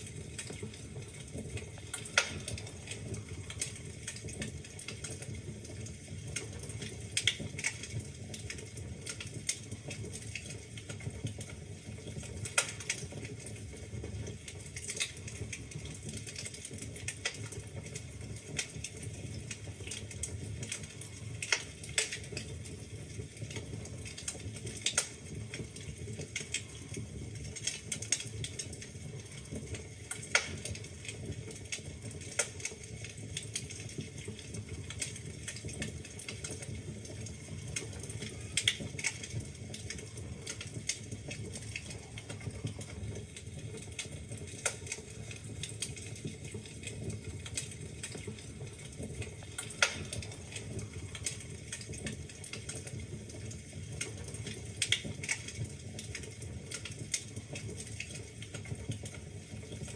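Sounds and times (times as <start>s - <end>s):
fire crackling: 0.0s - 59.9s
low rumble of flame: 0.0s - 59.9s
logs popping: 0.2s - 11.4s, 14.4s - 22.5s, 23.4s - 26.8s, 29.5s - 53.4s, 54.0s - 57.2s.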